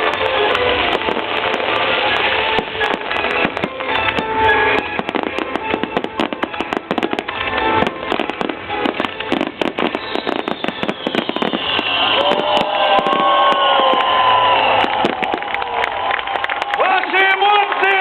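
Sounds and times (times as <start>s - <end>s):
fireworks crackling and popping: 0.0s - 18.0s
music playing: 0.0s - 18.0s.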